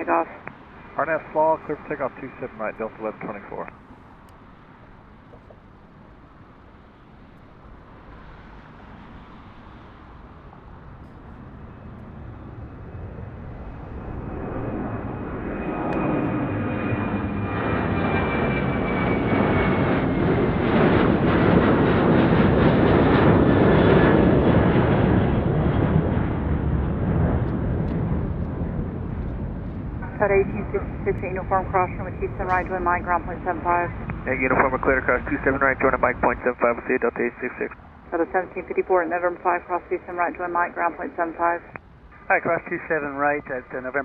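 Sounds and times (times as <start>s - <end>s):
jet engines roaring at takeoff: 0.0s - 44.0s.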